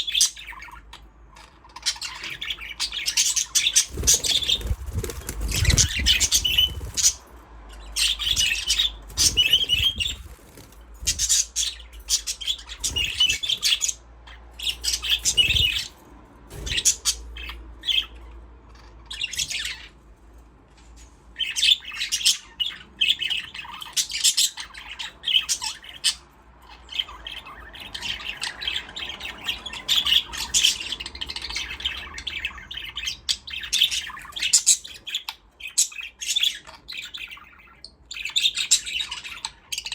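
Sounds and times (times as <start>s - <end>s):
budgerigars chirping and chattering: 0.0s - 20.0s, 21.4s - 39.9s.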